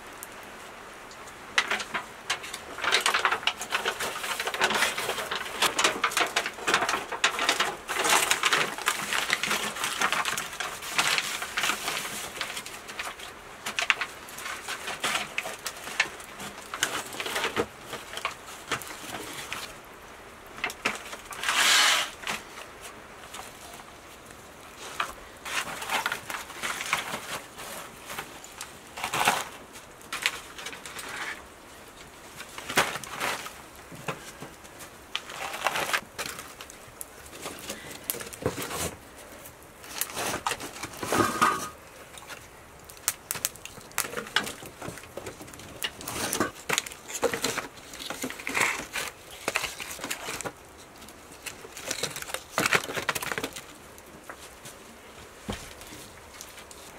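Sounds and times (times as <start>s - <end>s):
aluminium foil crinkling: 1.1s - 56.9s.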